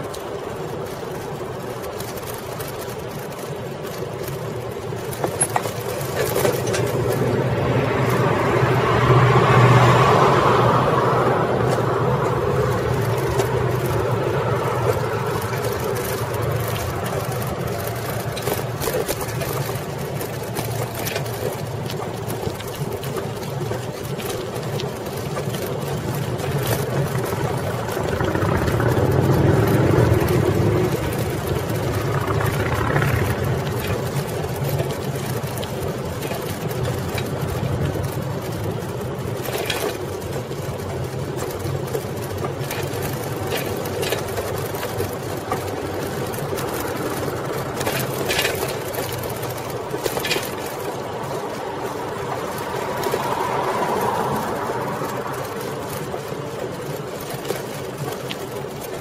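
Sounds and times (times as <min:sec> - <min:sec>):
passing car engines: 0:00.0 - 0:59.0
road traffic rush: 0:00.0 - 0:59.0.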